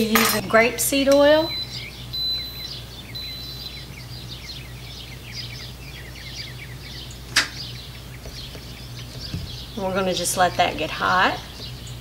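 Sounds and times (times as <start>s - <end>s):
birds twittering: 0.0s - 12.0s
steady low hum: 0.0s - 12.0s.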